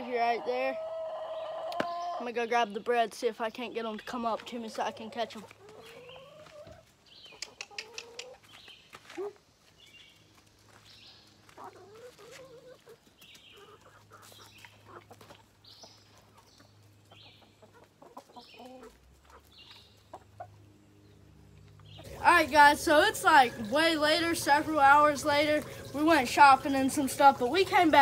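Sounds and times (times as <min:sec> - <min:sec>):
chickens clucking: 0:00.0 - 0:09.5, 0:10.2 - 0:28.0.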